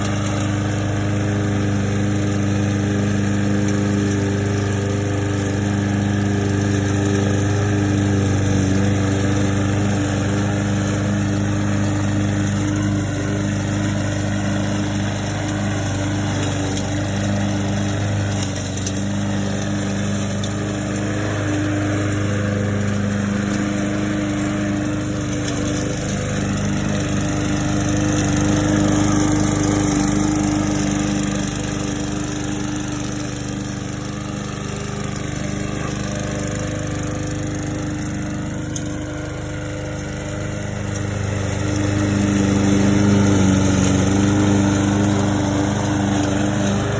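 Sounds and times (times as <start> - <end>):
lawn mower engine running: 0.0 - 46.9.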